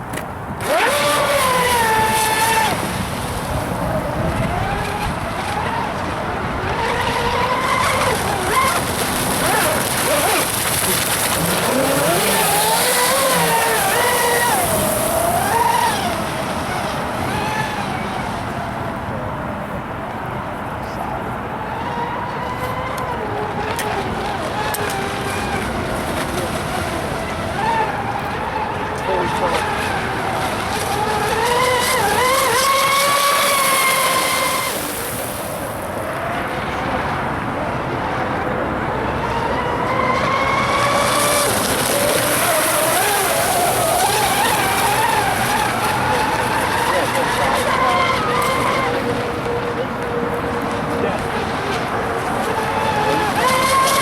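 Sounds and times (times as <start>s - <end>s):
electric boat motor whine: 0.0s - 54.0s.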